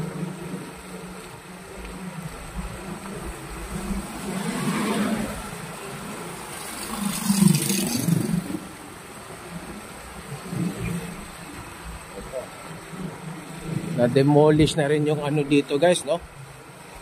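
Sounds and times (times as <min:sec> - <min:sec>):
traffic engines humming: 0:00.0 - 0:17.0.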